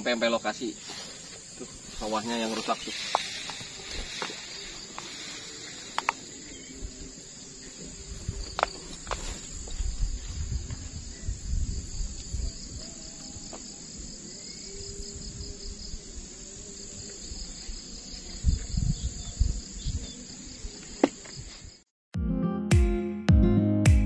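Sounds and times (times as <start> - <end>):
high-pitched insect chorus: 0.0 - 21.8.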